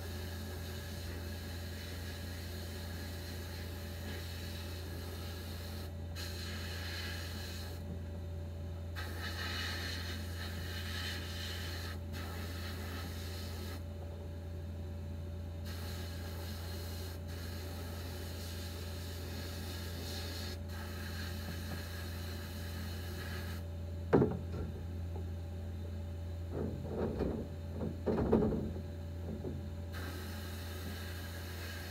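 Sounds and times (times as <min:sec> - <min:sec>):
constant low hum: 0:00.0 - 0:31.9.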